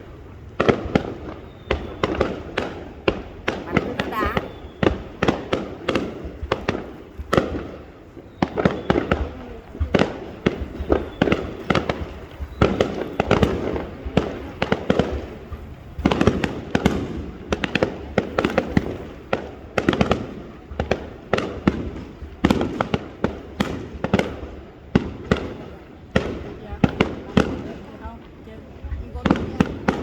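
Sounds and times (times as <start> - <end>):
fireworks rumble and crackle: 0.0 - 30.0
firework shells bursting: 0.6 - 28.1.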